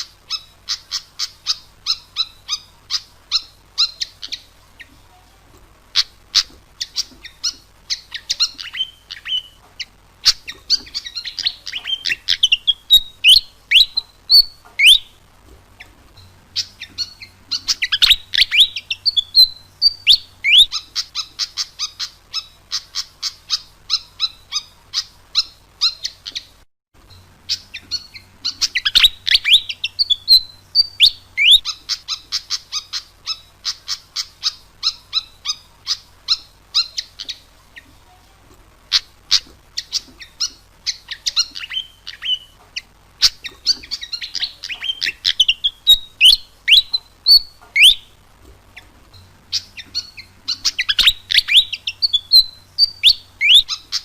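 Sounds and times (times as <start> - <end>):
bird singing high chirps: 0.0 - 5.0, 5.9 - 15.2, 16.5 - 37.9, 38.9 - 48.2, 48.8 - 54.0.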